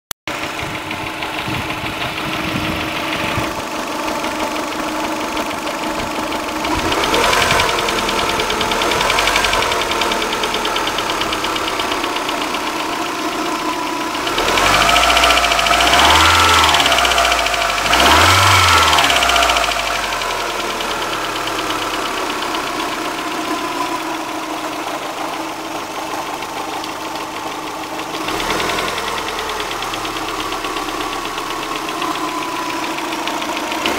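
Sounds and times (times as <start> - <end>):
car engine idling and revving: 0.3 - 33.9
engine knock: 0.3 - 33.9.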